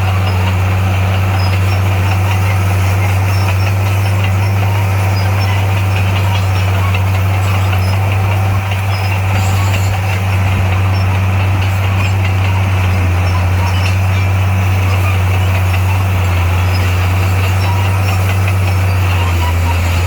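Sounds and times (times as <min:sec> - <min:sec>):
diesel engine humming: 0:00.0 - 0:20.0.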